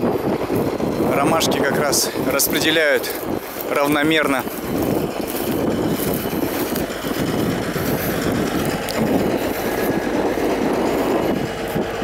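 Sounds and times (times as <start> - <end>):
tractor and cultivator working: 0.0 - 12.0.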